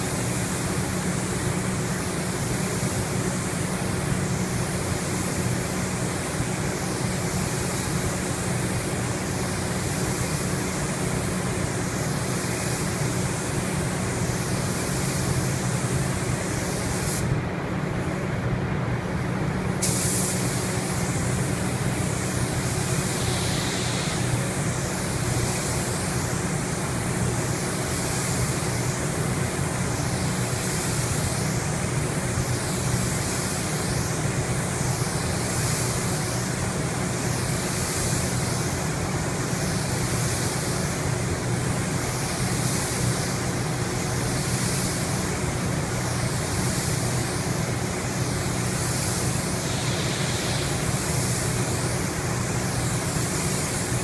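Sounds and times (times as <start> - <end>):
paint spray gun hissing: 0.0 - 18.1, 19.8 - 54.0.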